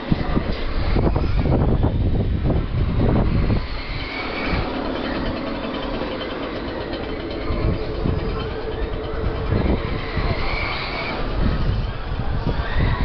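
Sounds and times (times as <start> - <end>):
faint whining tones: 0.6 - 13.0
rc car motors whirring: 0.6 - 13.0.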